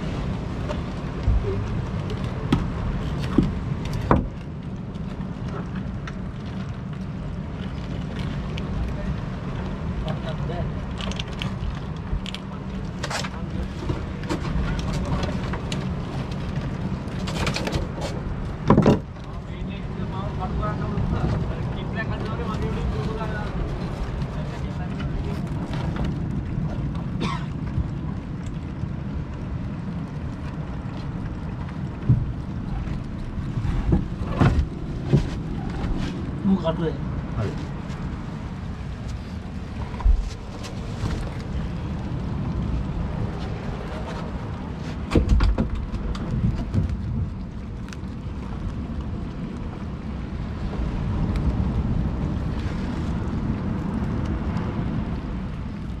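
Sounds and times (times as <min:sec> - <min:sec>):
sea around boat: 0:00.0 - 0:56.0
wind on microphone: 0:00.0 - 0:56.0.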